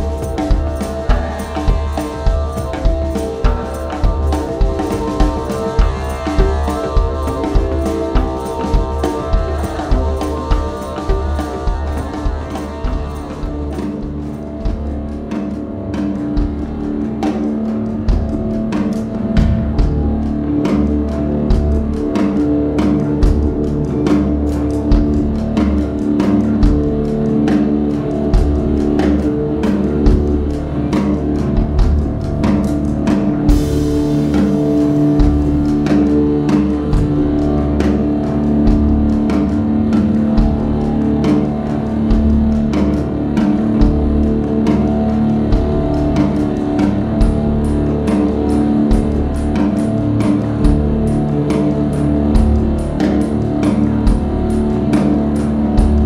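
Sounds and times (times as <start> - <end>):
drum beat: 0.0 - 22.4, 23.0 - 56.0
electric bass notes: 0.0 - 56.0.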